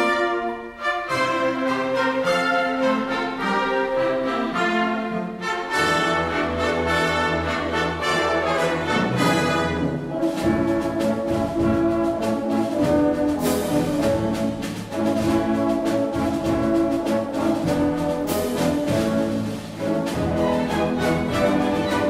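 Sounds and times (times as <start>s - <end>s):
brass playing: 0.0s - 22.0s.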